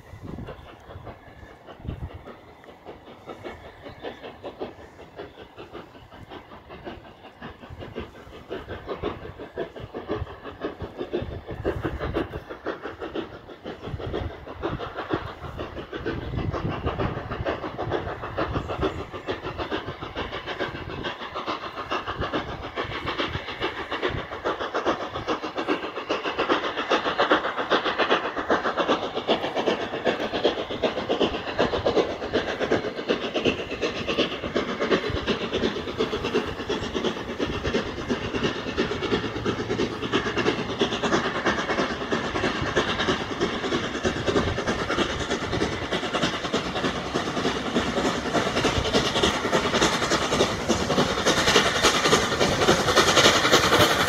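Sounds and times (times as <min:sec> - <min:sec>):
steam locomotive exhaust beats: 0:00.0 - 0:54.0.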